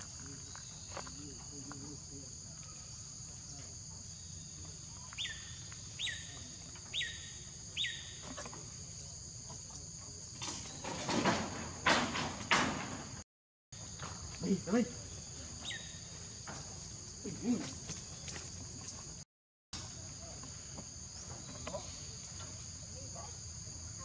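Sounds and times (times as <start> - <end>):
shrill insect chorus: 0.0 - 13.2, 13.8 - 19.2, 19.8 - 24.0.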